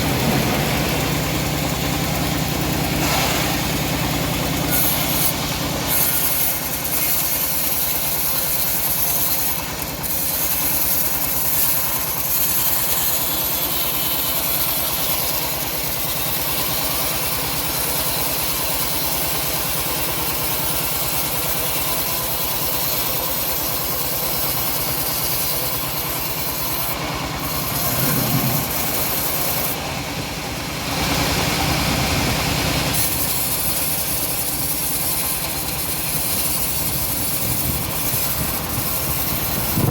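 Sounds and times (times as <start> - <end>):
bandsaw sawmill cutting log: 0.0 - 39.9.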